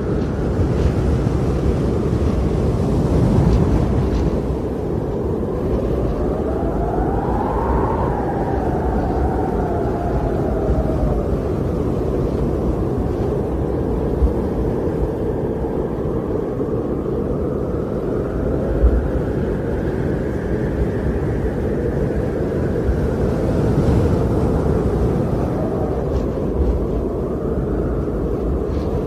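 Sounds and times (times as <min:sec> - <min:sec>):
wind blowing with faint whistle: 0:00.0 - 0:29.0.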